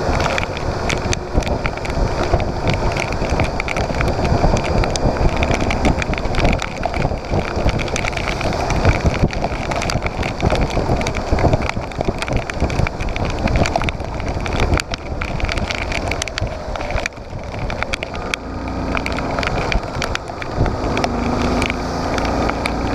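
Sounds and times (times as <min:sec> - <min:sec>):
knocks and rattles: 0:00.0 - 0:22.9
motorcycle engine: 0:00.0 - 0:22.9
wind buffeting microphone: 0:00.0 - 0:22.9.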